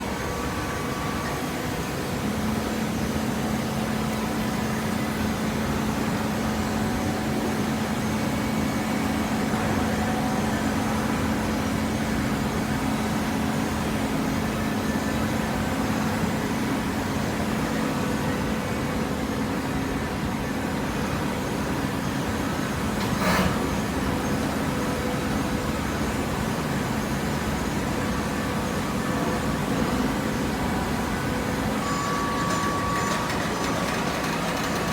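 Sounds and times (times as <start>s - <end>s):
machinery humming: 0.0s - 34.9s.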